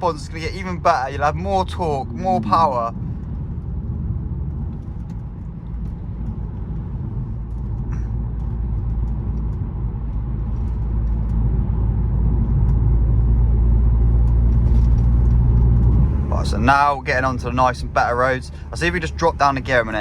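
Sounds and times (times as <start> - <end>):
car engine hum from inside cabin: 0.0 - 20.0
road noise: 0.0 - 20.0.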